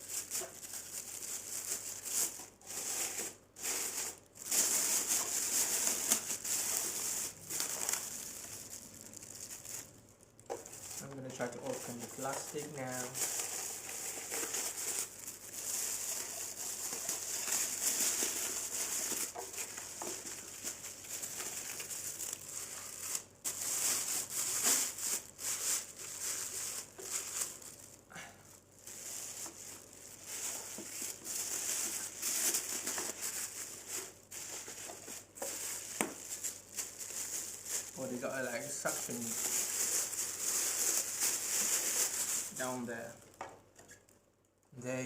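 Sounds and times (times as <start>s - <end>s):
plastic wrapping crinkling: 0.0s - 44.3s.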